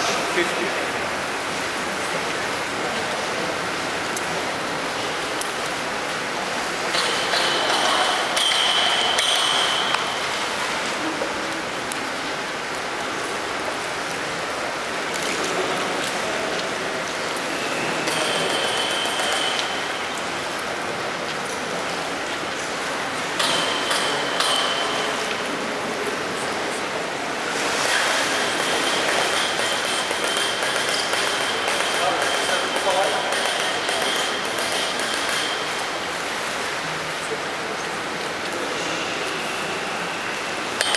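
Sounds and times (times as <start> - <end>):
swimming pool water noise: 0.0 - 40.9.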